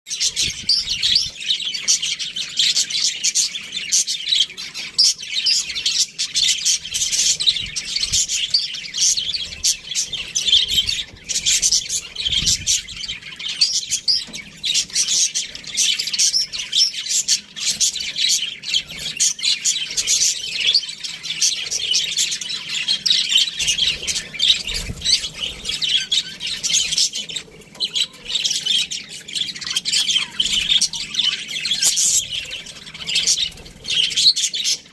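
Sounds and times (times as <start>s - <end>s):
budgerigars chirping and squawking: 0.1s - 34.9s.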